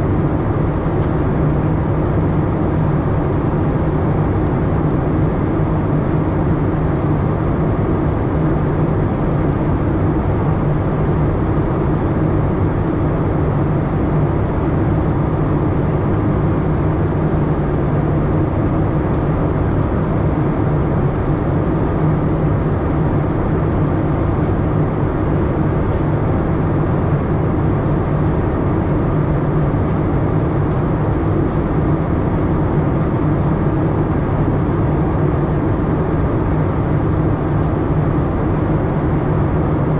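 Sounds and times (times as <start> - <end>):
airliner cabin engine hum: 0.0 - 39.9.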